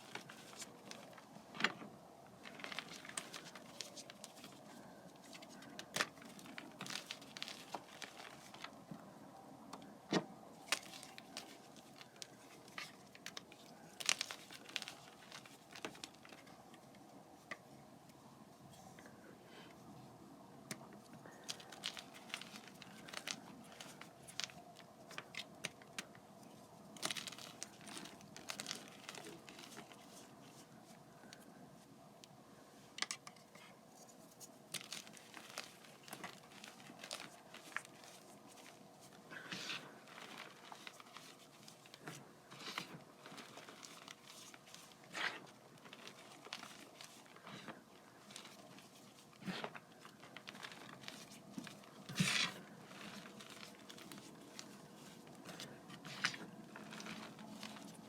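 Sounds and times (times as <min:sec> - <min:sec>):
chalk crunching and crackling: 0:02.3 - 0:09.1, 0:10.6 - 0:19.3, 0:20.7 - 0:31.6, 0:33.5 - 0:58.0.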